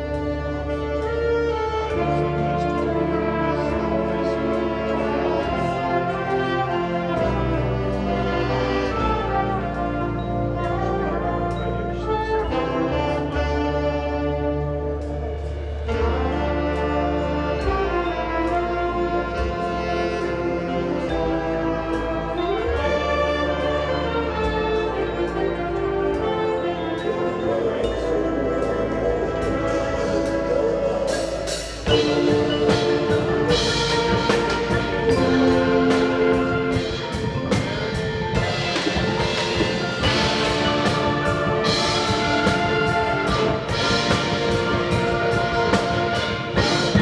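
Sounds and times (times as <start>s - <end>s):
wind ensemble playing chords: 0.0s - 47.0s.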